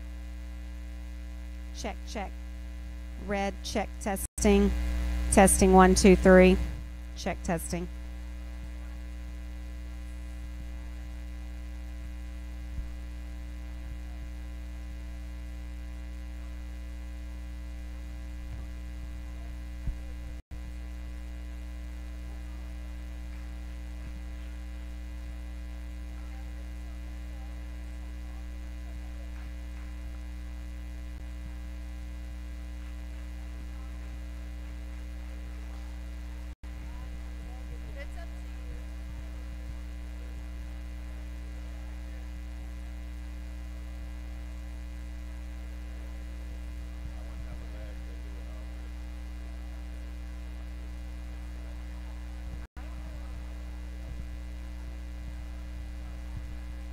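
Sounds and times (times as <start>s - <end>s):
electrical mains hum: 0.0s - 56.9s.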